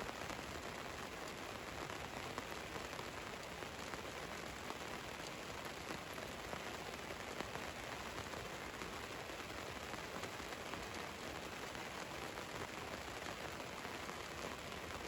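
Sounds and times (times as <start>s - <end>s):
rain hissing on a van: 0.0s - 15.0s.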